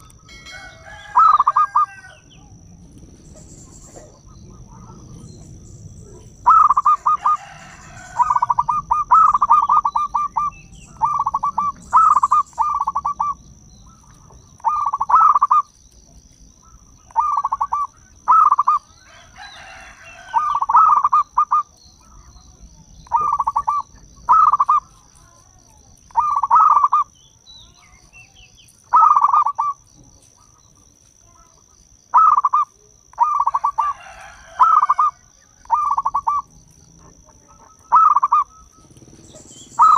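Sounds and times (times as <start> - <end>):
dove cooing: 0.0 - 15.7, 16.6 - 25.4, 26.1 - 27.1, 28.9 - 29.8, 32.1 - 39.9.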